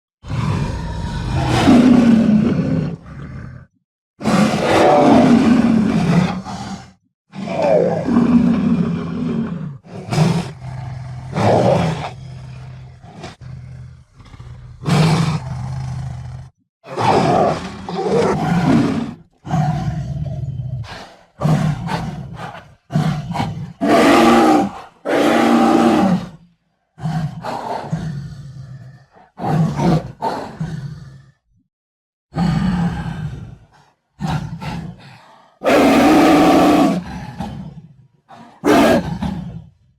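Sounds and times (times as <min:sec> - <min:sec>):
jaguar roaring and growling: 0:00.2 - 0:31.4, 0:32.3 - 0:39.9.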